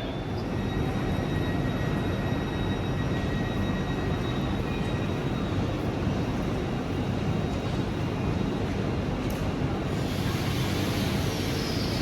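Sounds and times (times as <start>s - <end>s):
train equipment low rumble: 0.0s - 12.0s.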